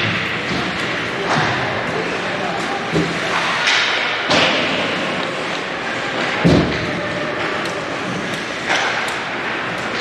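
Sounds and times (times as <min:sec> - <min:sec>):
skate and rink noise: 0:00.0 - 0:10.0.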